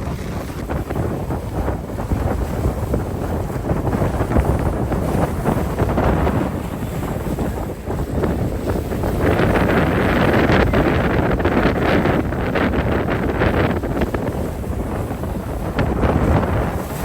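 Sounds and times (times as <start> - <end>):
boat running: 0.0 - 17.0
water sounds: 0.0 - 17.0
wind buffeting microphone: 0.0 - 17.0.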